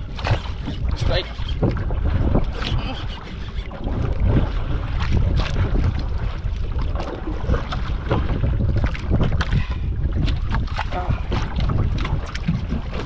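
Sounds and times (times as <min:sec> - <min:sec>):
knocks and splashes: 0:00.0 - 0:13.0
water slapping against hull: 0:00.0 - 0:13.0
wind buffeting microphone: 0:00.0 - 0:13.0.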